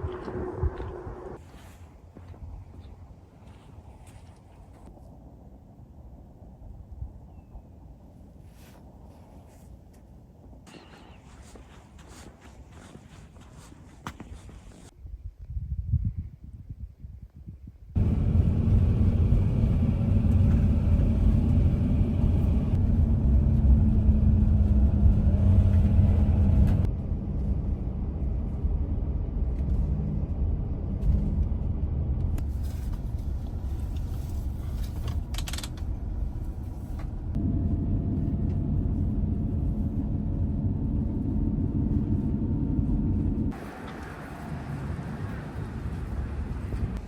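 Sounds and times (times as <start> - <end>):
vehicle engine and road rumble: 0.0 - 14.9, 18.0 - 47.0.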